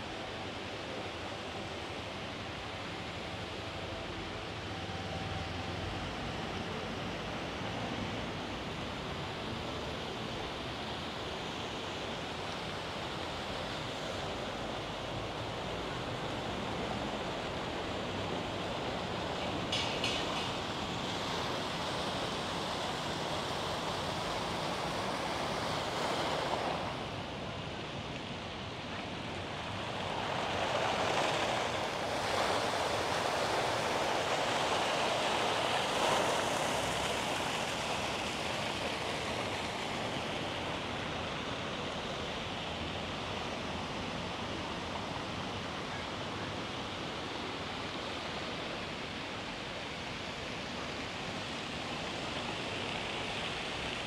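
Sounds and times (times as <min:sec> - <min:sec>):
steady outdoor rushing noise: 0:00.0 - 0:54.0.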